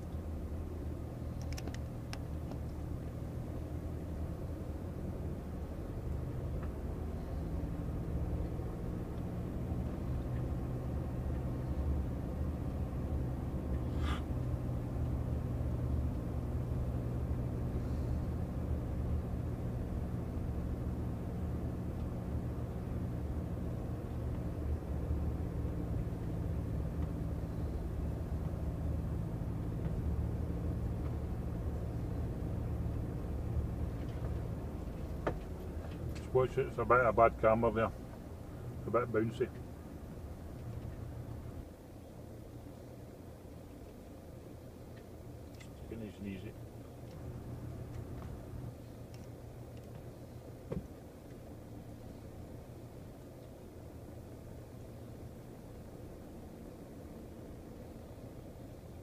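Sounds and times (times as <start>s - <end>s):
road noise: 0.0s - 59.0s
vehicle engine hum: 0.0s - 59.0s.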